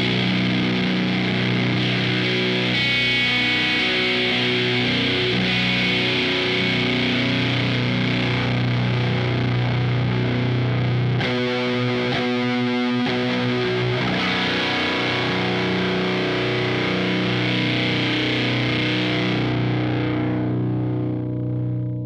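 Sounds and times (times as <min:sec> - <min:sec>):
overdriven electric guitar: 0:00.0 - 0:22.0.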